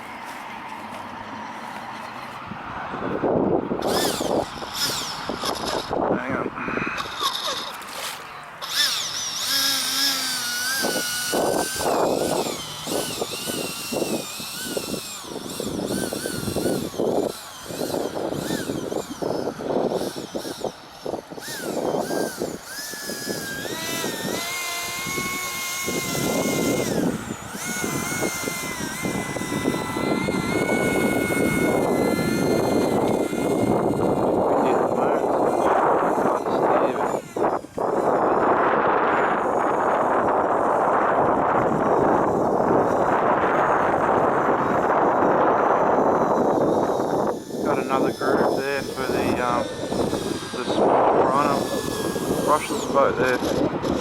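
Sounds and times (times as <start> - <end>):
electric ducted fan whining: 0.0 - 54.0
wind noise: 1.8 - 54.0.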